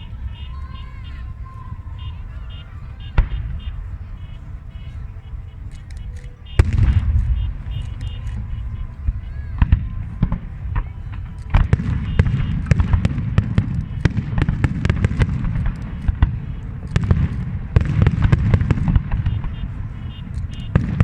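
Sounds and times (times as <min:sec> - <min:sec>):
fireworks bangs and crackling: 0:00.0 - 0:21.0
low rumble: 0:00.0 - 0:21.0.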